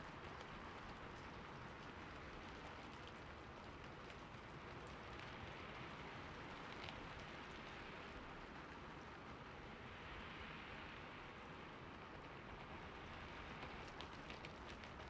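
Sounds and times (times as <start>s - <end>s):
faint rain on a roof: 0.0s - 15.0s.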